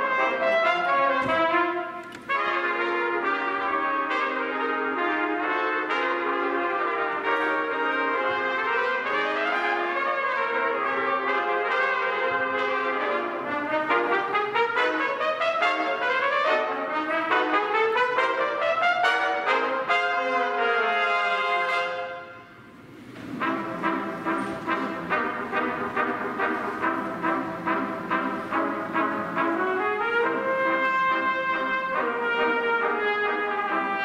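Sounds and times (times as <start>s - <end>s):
trumpet ensemble playing: 0.0s - 34.0s.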